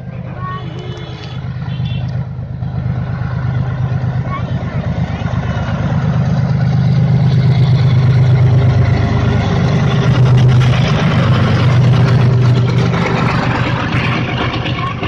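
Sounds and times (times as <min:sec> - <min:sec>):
locomotive engine drone: 0:00.0 - 0:15.0
train wagons rolling on rails: 0:00.0 - 0:15.0.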